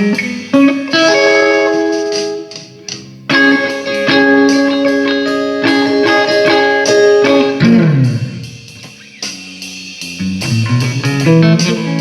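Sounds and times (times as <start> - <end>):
amplified electric guitar: 0.0 - 12.0.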